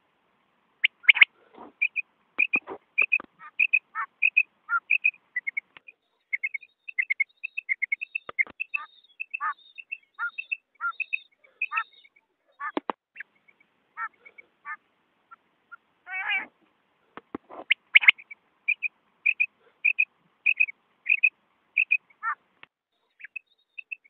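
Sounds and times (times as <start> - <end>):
quail calling: 0.8 - 16.6, 17.2 - 22.4, 23.0 - 24.0.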